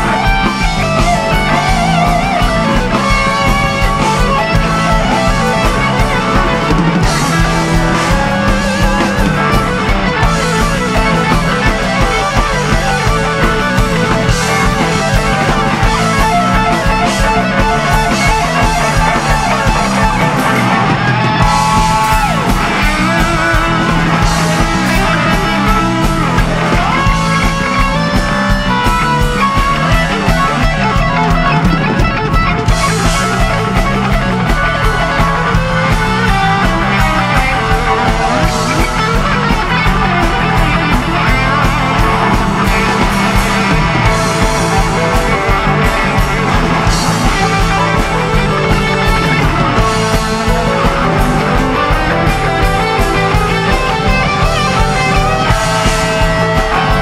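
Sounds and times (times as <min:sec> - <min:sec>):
drums: 0:00.0 - 0:57.0
electric guitar: 0:00.0 - 0:57.0
keyboards: 0:00.0 - 0:57.0.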